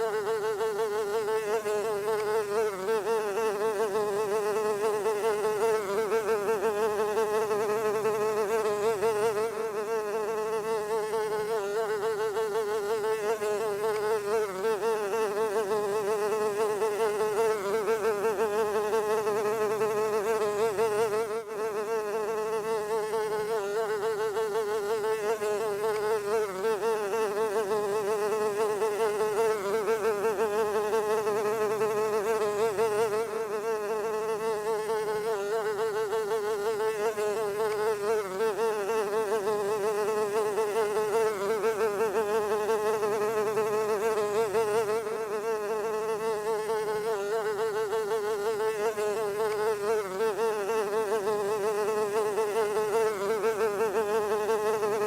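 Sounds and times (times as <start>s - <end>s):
fly buzzing: 0.0s - 55.0s.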